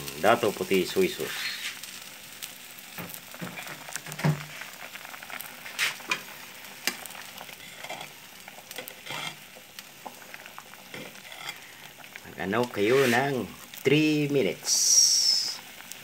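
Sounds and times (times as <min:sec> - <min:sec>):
soup boiling in a pot: 0:00.0 - 0:16.0.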